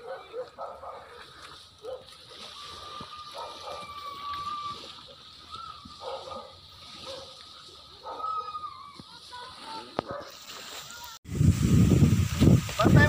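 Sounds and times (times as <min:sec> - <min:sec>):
waves washing onto beach: 0:01.1 - 0:13.0.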